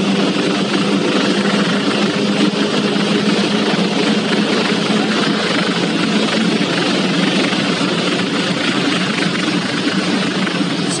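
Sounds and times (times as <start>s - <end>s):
car engine drone: 0.0s - 11.0s
wind and road noise: 0.0s - 11.0s.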